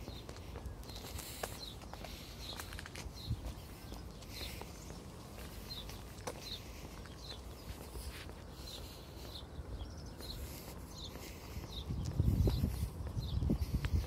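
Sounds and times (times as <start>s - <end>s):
faint footsteps: 0.0s - 14.0s.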